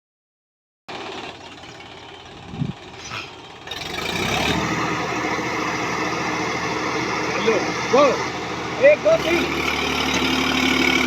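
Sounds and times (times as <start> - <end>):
tractor diesel engine: 0.9 - 11.0.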